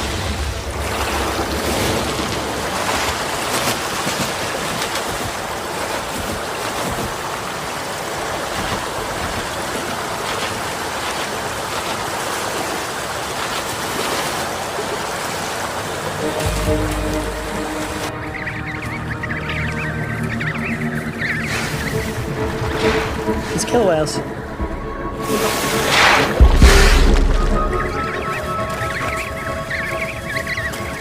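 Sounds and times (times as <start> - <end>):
surf rushing: 0.0 - 18.4, 20.7 - 31.0
water splashes: 0.0 - 31.0.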